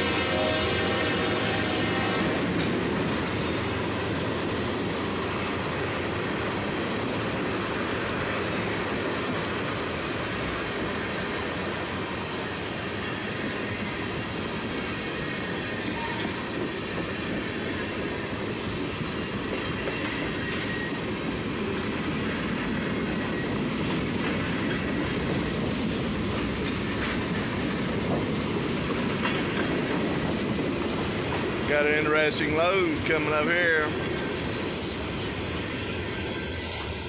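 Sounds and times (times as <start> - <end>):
freight train rolling past: 0.0 - 37.0
steel wheels clattering on rails: 0.0 - 37.0.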